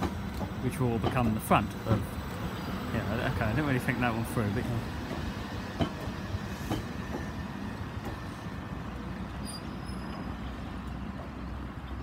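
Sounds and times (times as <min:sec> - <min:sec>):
train wheels running on track: 0:00.0 - 0:12.0.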